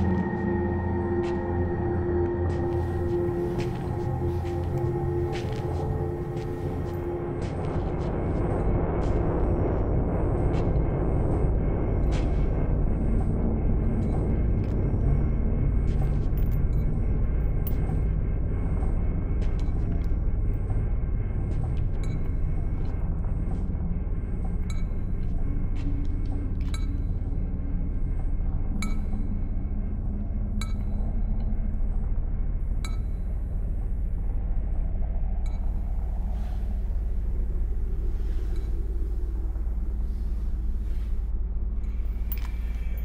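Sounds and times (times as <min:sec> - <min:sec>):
deep rumbling drone: 0:00.0 - 0:43.0.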